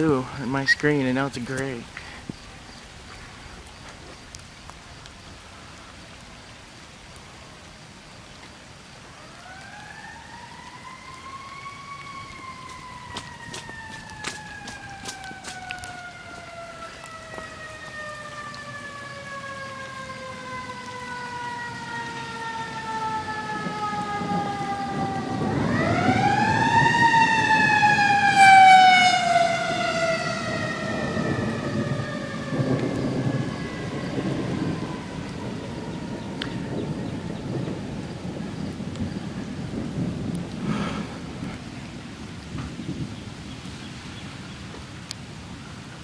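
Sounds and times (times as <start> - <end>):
thunder rumbling: 0.0 - 8.2, 8.8 - 45.1
rain hiss: 0.0 - 28.3, 30.4 - 46.0.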